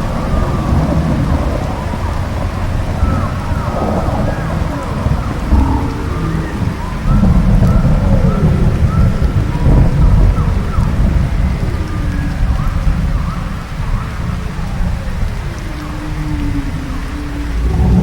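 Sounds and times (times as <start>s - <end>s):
deep rough creature rumble: 0.0s - 18.0s.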